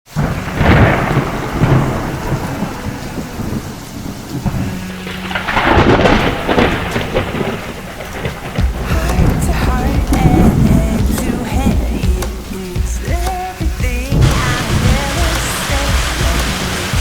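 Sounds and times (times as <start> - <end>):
steady rain: 0.0 - 17.0
thunder rumbling: 0.1 - 17.0.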